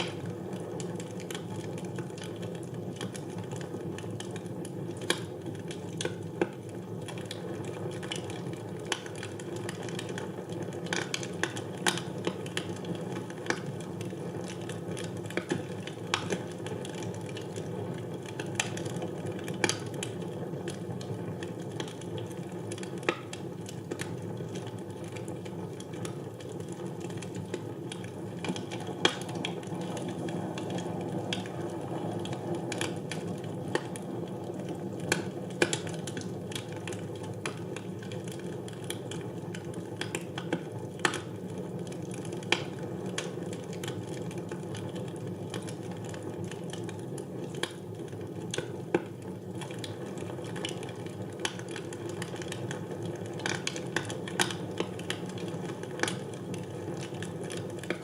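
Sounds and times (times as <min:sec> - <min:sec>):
burning wood popping and snapping: 0:00.0 - 0:58.0.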